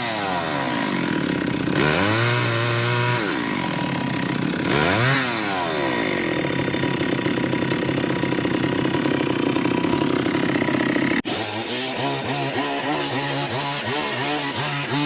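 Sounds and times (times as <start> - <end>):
chainsaw engine running: 0.0 - 15.0.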